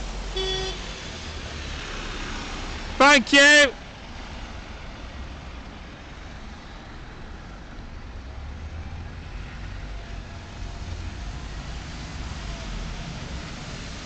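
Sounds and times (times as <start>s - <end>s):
bus engines rumbling: 0.0s - 14.0s.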